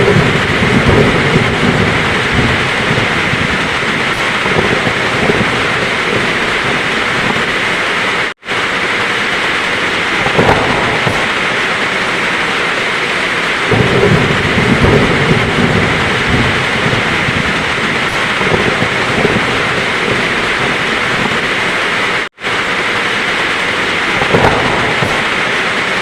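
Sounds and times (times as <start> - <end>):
heavy rain falling: 0.0 - 26.0
thunder rumbling: 0.0 - 26.0.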